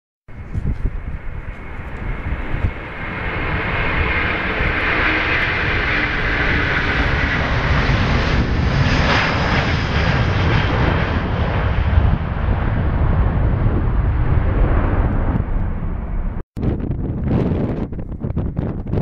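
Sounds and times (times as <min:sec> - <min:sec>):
jet engines at take-off thrust: 0:00.3 - 0:19.0.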